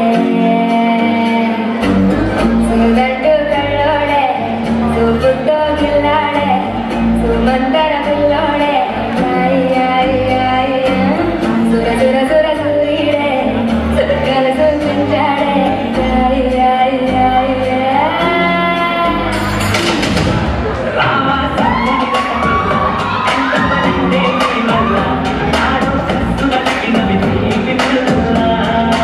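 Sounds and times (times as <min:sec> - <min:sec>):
woman singing over a beat: 0:00.0 - 0:01.9, 0:02.6 - 0:19.4, 0:21.0 - 0:29.0.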